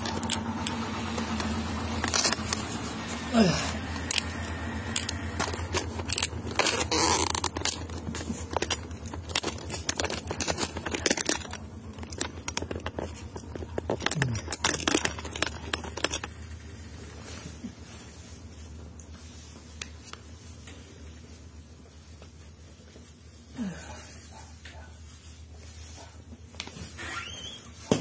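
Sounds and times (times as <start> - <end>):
low steady hum: 0.0 - 26.5.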